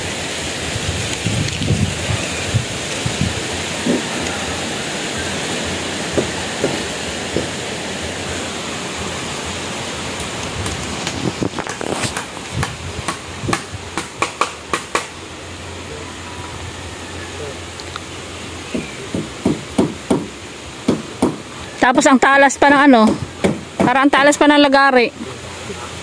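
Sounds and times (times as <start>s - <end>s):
steady rushing noise: 0.0s - 21.4s.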